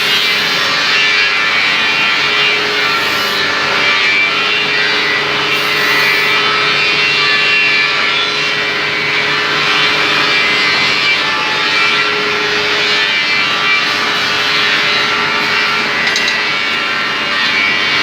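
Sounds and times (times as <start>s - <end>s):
mechanical drone with hiss: 0.0s - 18.0s.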